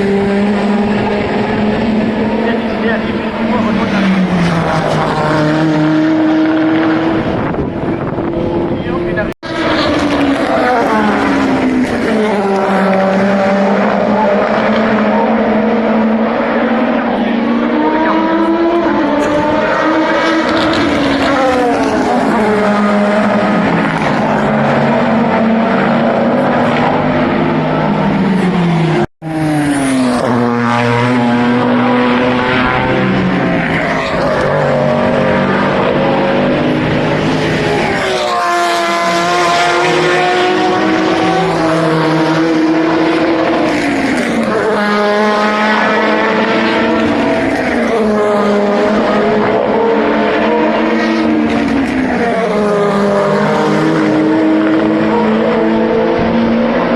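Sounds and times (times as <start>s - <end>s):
race cars passing at speed: 0.0s - 56.9s.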